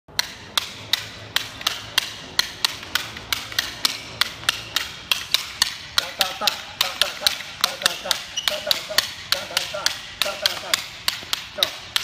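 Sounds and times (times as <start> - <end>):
sticks clacking together: 0.1 - 12.0.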